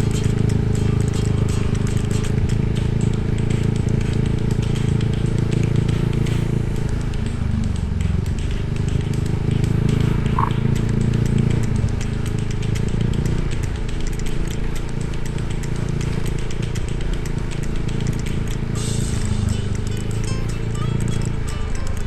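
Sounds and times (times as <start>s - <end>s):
motorbike engine running: 0.0s - 22.0s
road and wind noise: 0.0s - 22.0s.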